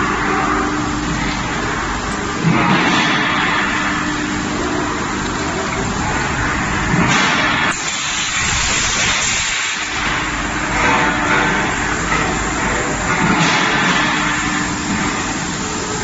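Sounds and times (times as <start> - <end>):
pipe making machine running: 0.0 - 16.0.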